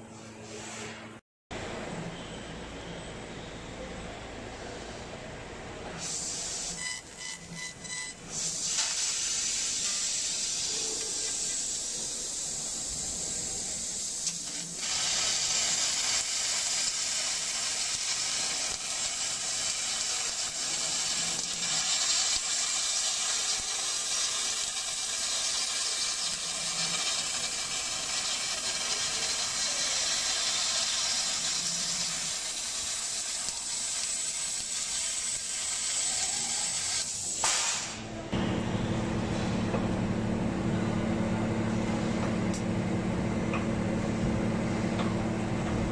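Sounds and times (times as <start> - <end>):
laser cutter assist gas hissing: 5.9 - 42.7.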